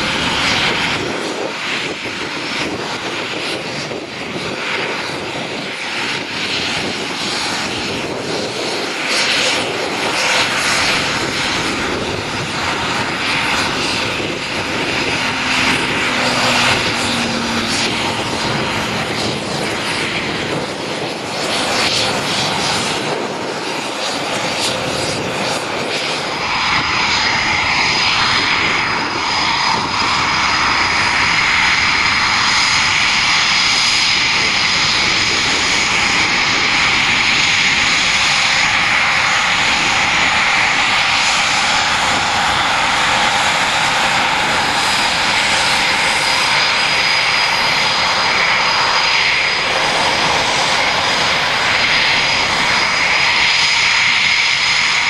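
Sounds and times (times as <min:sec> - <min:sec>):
continuous rushing noise: 0:00.0 - 0:55.0
jet engine whine: 0:00.0 - 0:55.0.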